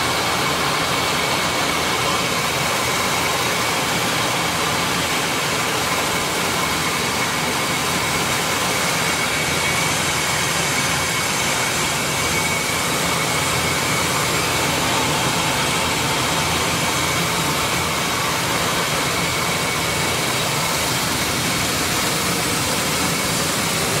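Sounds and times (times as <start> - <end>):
milling machine grinding corn: 0.0 - 24.0
faint high whine: 0.1 - 24.0.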